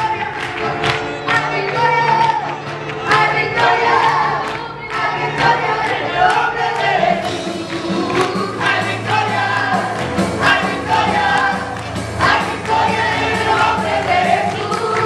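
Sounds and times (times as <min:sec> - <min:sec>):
congregation singing: 0:00.0 - 0:15.0
woman and man singing: 0:00.0 - 0:15.0.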